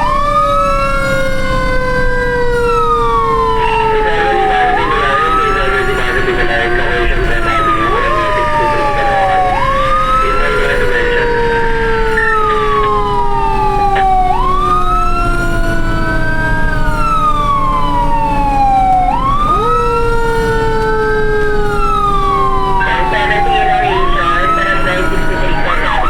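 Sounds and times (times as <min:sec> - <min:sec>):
fire truck sirens wailing: 0:00.0 - 0:26.0.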